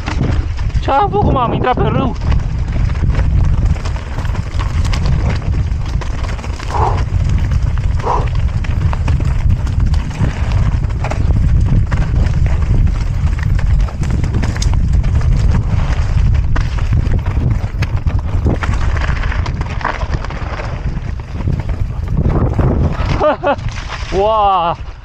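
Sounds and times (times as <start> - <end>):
mountain bike rattling: 0.0 - 25.0
wind rumble on microphone: 0.0 - 25.0.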